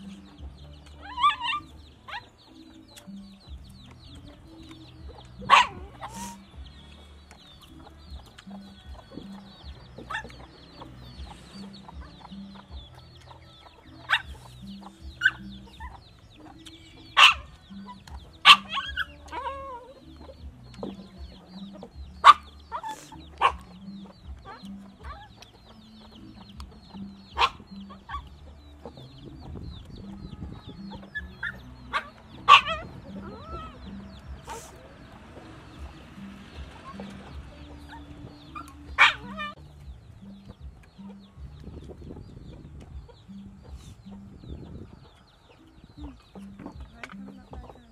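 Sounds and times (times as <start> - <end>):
chickens clucking: 0.0 - 47.9
soft background music with beat: 0.0 - 47.9.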